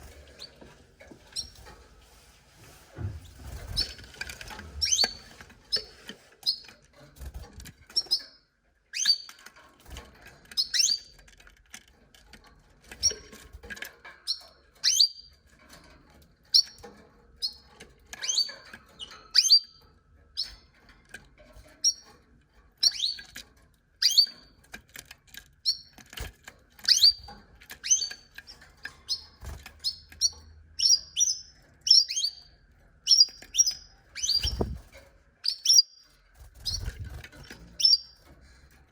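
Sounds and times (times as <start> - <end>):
canaries chirping: 0.0 - 11.2, 12.8 - 38.9.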